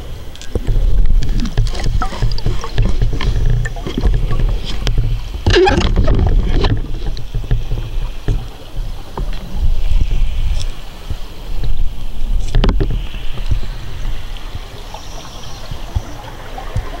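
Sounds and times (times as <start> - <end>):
underwater rumble of moving water: 0.0 - 17.0.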